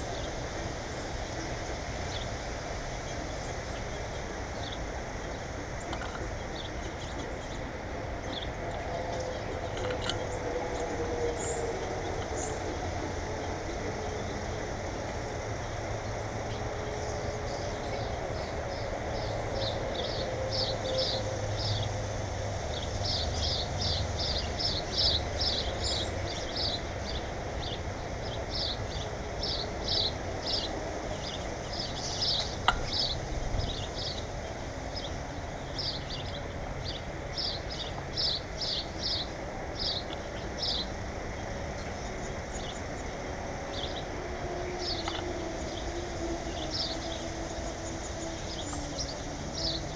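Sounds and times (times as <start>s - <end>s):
small birds chirping: 0.1s - 22.0s, 22.7s - 49.9s.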